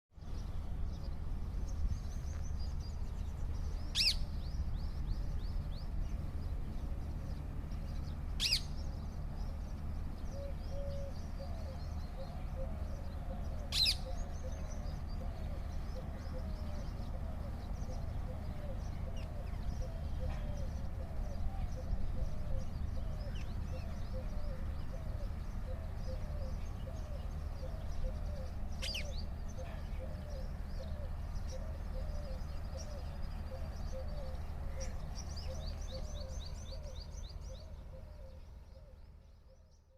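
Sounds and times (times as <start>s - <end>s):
birds chirping and twittering: 0.1s - 39.9s.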